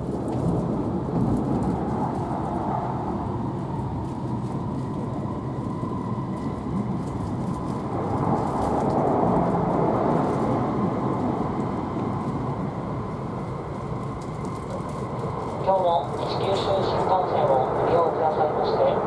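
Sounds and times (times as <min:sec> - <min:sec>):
train running noise with whine: 0:00.0 - 0:19.0.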